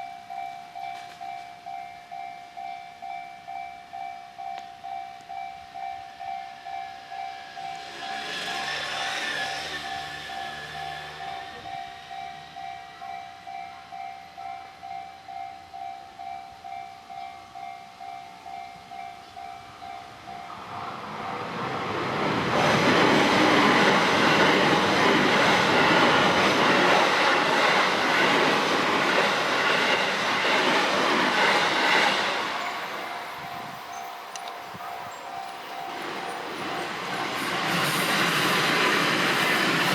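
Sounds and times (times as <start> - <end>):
level-crossing warning bell: 0.0 - 22.1, 23.2 - 39.9
train wheels on rails: 4.0 - 16.8, 17.9 - 39.9.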